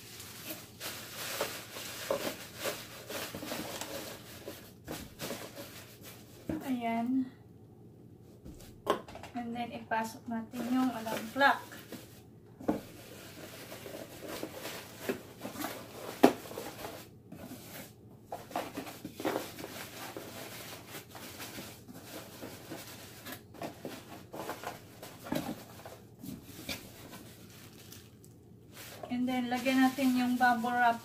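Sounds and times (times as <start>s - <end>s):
bubble wrap and cardboard crinkling: 0.0s - 7.0s, 10.4s - 31.0s.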